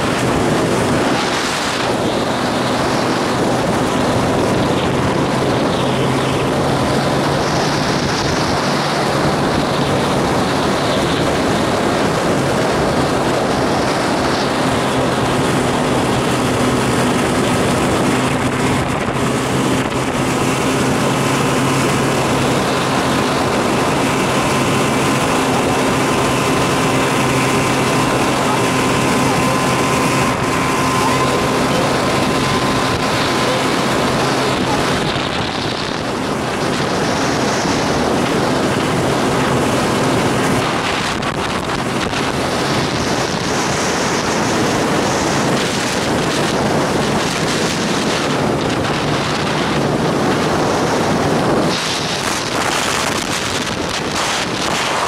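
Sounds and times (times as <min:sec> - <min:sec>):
outboard motor running: 0:00.0 - 0:55.0
water rushing past hull: 0:00.0 - 0:55.0
wind buffeting microphone: 0:00.0 - 0:55.0.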